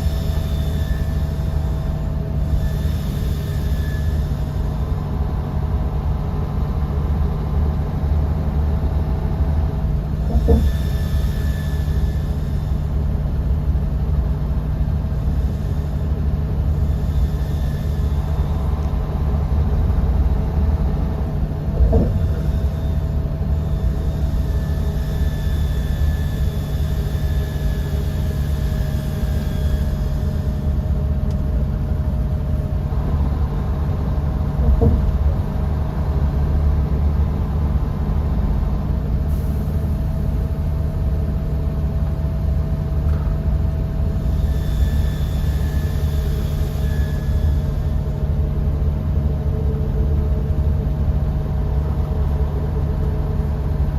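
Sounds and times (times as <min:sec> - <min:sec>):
faint high whine: 0:00.0 - 0:53.9
bus engine and road rumble: 0:04.1 - 0:44.4, 0:47.6 - 0:53.9.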